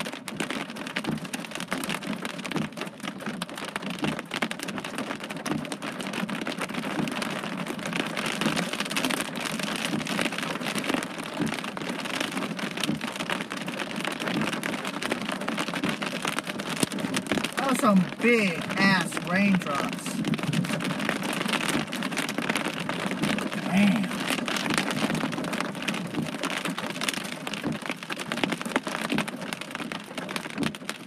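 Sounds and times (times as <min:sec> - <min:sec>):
heavy rain on hard surface: 0:00.0 - 0:31.0.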